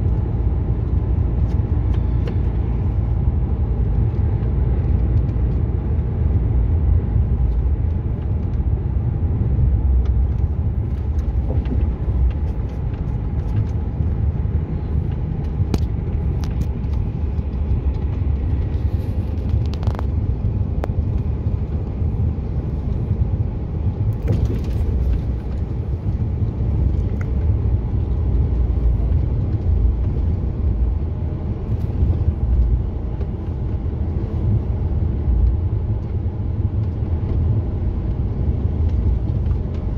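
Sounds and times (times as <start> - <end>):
truck engine and tyres rumbling: 0.0 - 39.9.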